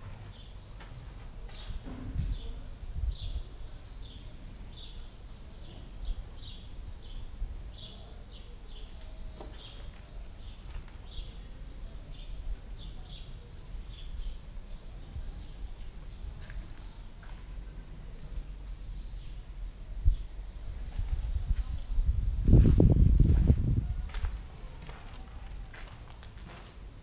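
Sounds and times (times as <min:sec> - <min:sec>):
small birds chirping: 0:00.2 - 0:25.7.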